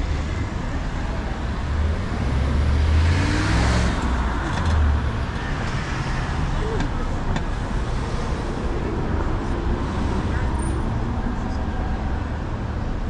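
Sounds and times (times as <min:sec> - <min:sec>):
cars passing: 0:00.0 - 0:13.0
low traffic rumble: 0:00.0 - 0:13.0.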